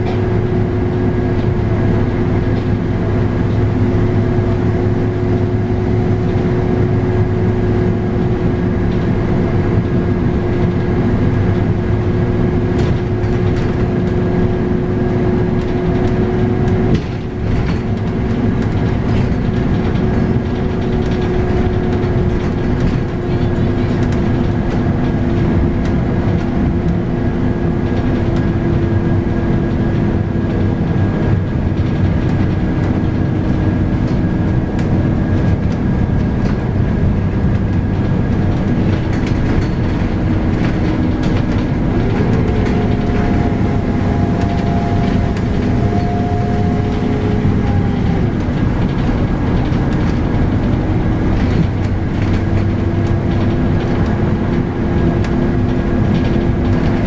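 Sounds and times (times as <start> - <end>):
bus engine and road rumble: 0.0 - 57.0
transmission whine: 0.0 - 57.0.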